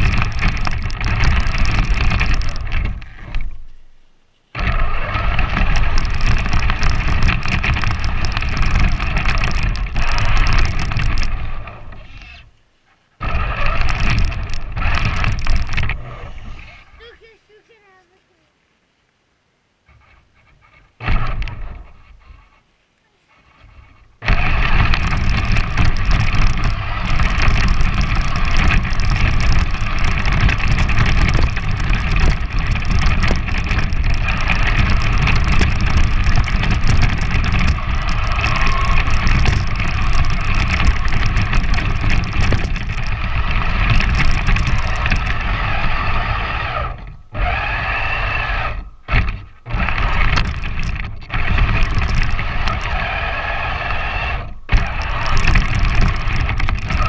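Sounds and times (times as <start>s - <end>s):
electric motor and gear whine: 0.0s - 3.8s, 4.5s - 12.5s, 13.2s - 17.0s, 21.0s - 22.2s, 23.6s - 57.0s.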